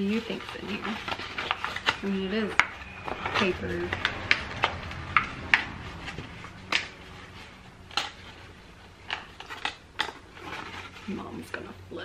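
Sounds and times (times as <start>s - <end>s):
paper wrapping crinkling: 0.0s - 11.8s.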